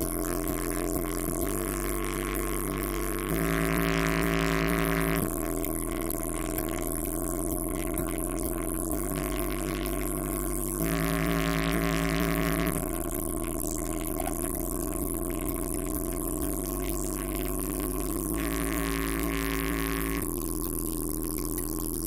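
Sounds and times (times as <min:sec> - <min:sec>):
deep distorted bass: 0:00.0 - 0:22.0
held synth notes: 0:00.0 - 0:22.0.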